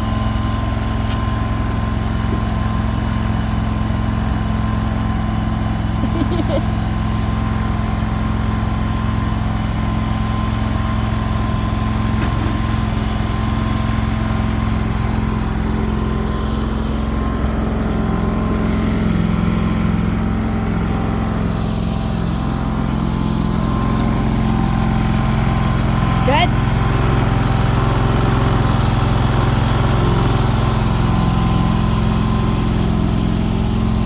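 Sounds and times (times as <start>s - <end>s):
small engine idling: 0.0s - 34.0s.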